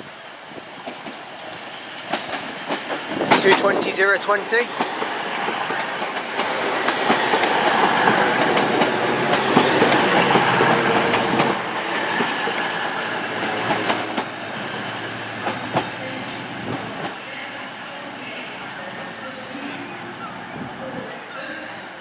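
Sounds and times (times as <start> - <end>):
train slowing into platform: 0.0 - 22.0.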